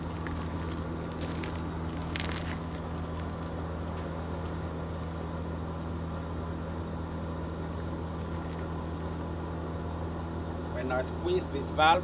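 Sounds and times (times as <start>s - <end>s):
blower humming: 0.0s - 12.0s.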